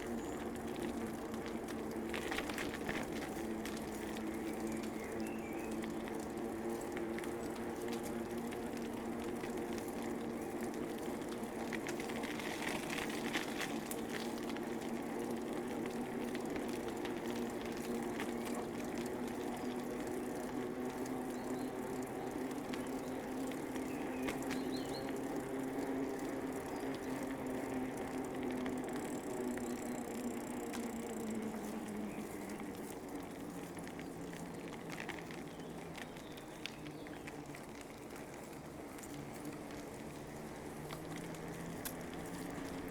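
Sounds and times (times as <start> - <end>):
bicycle tyres rolling: 0.0 - 42.9
light clicks and crackles: 0.0 - 42.9.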